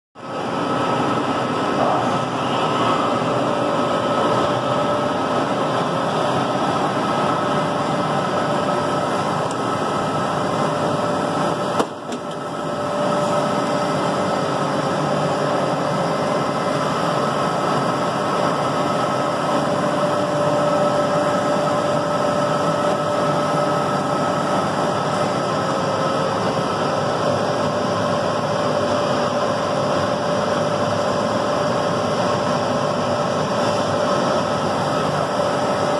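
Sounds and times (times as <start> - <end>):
milling machine running with whine: 0.2 - 35.9.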